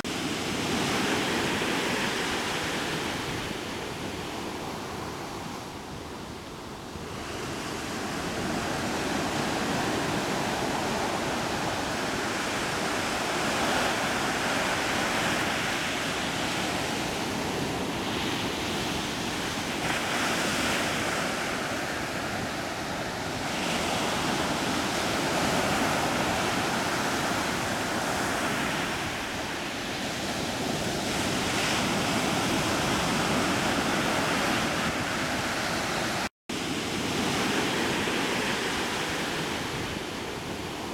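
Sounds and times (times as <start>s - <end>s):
waves washing: 0.0s - 5.7s, 7.0s - 40.9s
wind: 0.0s - 40.9s.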